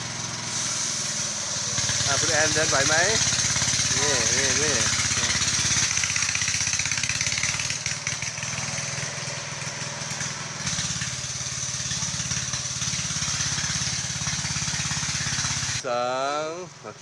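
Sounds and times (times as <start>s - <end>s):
small engine running: 0.0s - 15.8s.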